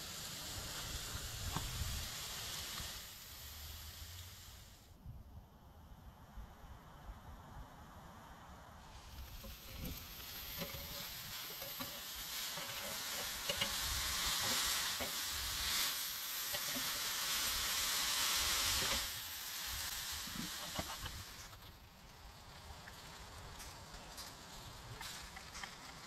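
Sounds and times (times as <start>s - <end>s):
patties sizzling on a grill: 0.0s - 4.9s, 8.9s - 26.0s.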